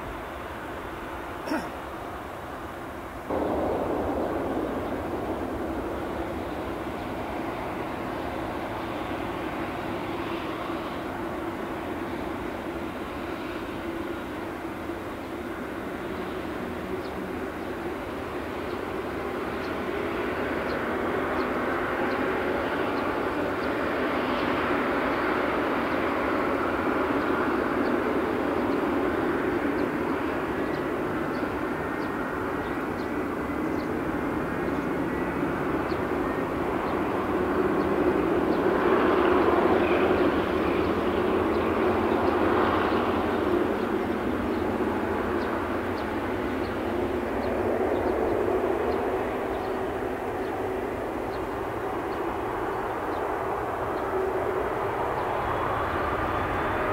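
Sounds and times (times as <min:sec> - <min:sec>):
jet engines at taxi power: 0:00.0 - 0:56.9.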